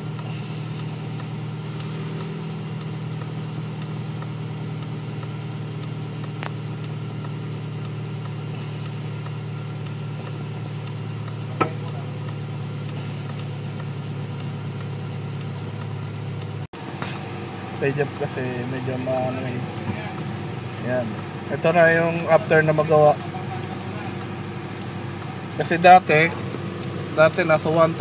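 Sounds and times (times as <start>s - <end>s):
car engine idling: 0.0s - 28.0s
faint regular ticking: 0.0s - 28.0s.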